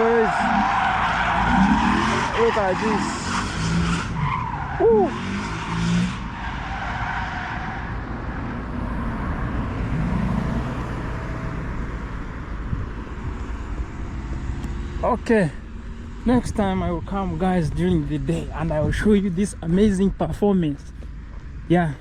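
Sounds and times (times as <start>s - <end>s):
motocross bikes engines and tyres: 0.0s - 22.0s.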